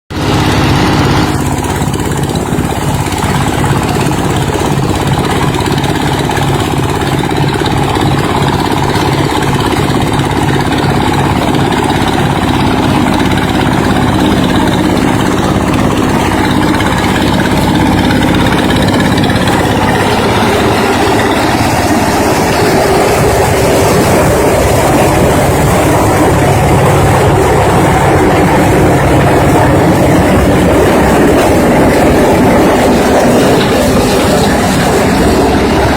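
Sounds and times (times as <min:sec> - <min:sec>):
corn sheller engine drone: 0:00.1 - 0:35.9.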